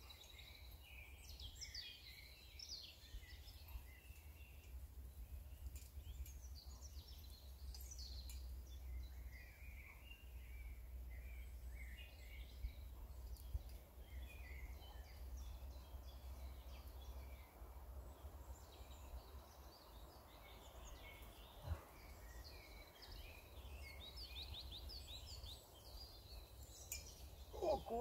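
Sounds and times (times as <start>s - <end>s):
small birds chirping and singing: 0.0s - 28.0s.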